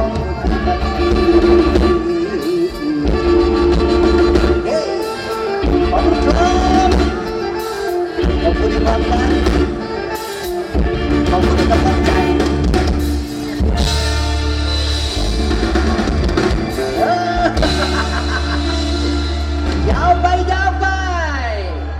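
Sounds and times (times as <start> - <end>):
deep bass line: 0.0 - 2.1, 3.0 - 4.7, 5.6 - 7.3, 8.2 - 9.8, 10.8 - 21.9
drum kit: 0.0 - 20.6
live band music: 0.0 - 21.9.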